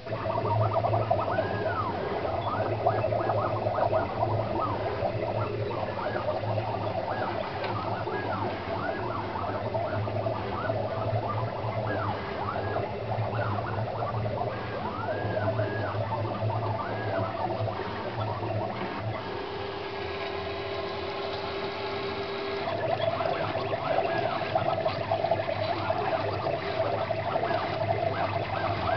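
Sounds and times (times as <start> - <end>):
steady low hum: 0.0 - 28.9
stepper motors whining: 0.0 - 28.9.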